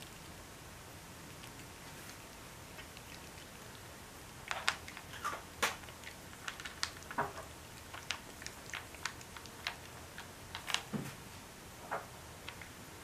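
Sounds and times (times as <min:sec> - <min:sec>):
cat chewing wet food: 0:00.0 - 0:11.0, 0:12.0 - 0:13.0.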